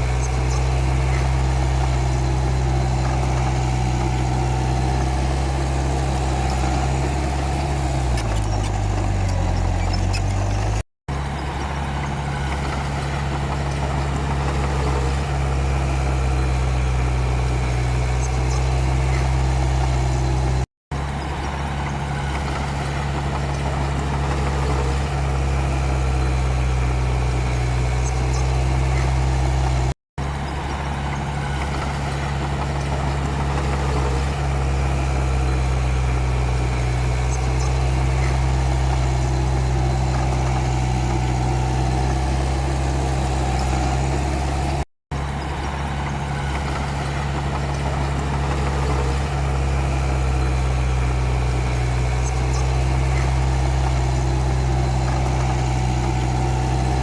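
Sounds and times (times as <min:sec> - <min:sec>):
bulldozer diesel engine humming: 0:00.0 - 0:57.0.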